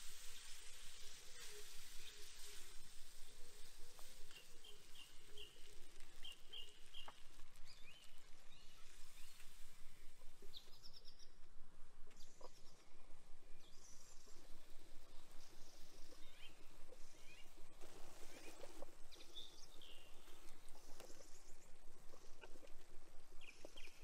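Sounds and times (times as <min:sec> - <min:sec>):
small birds chirping: 0:00.0 - 0:11.4, 0:12.1 - 0:24.0
steady hiss: 0:00.0 - 0:24.0
faint ticks: 0:01.2 - 0:10.7, 0:14.1 - 0:24.0.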